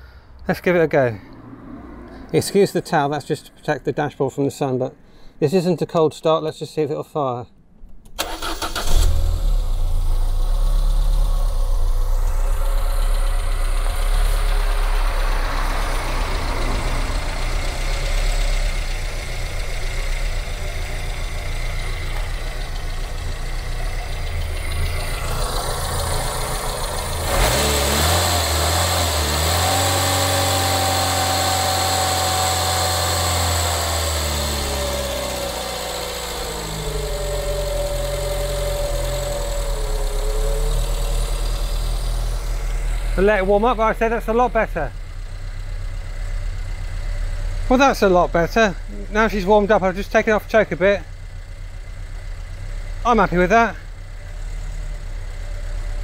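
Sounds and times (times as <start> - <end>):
car engine idling: 7.8 - 56.0.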